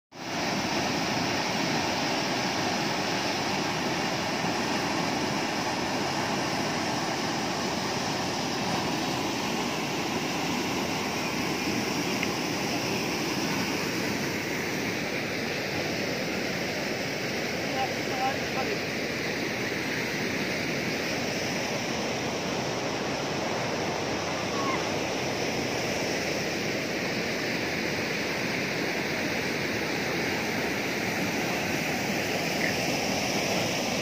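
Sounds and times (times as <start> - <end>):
floodwater rushing: 0.2 - 34.0.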